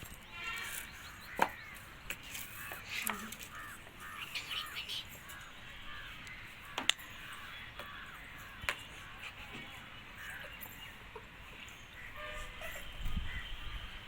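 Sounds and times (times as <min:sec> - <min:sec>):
faint bird calls: 0:00.1 - 0:14.0.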